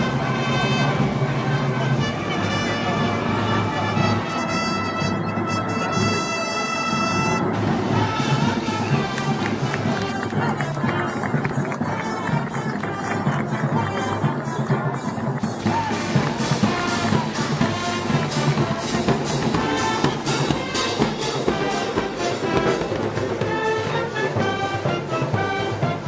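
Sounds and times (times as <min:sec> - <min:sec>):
brass band playing: 0:00.0 - 0:26.0
steady drum beat: 0:00.0 - 0:26.0.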